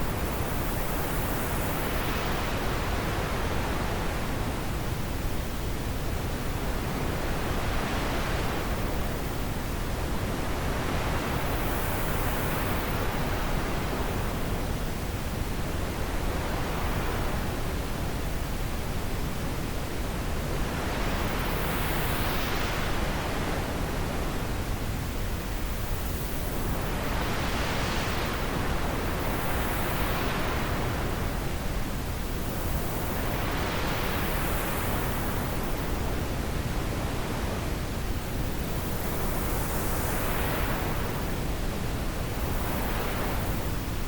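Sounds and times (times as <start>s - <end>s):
wind blowing in gusts: 0.0s - 44.0s.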